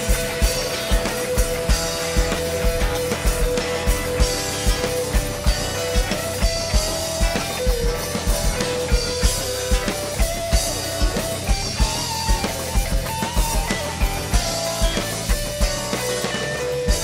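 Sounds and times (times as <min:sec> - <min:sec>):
electric guitar solo: 0:00.0 - 0:17.0
steady kick-drum beat: 0:00.0 - 0:17.0.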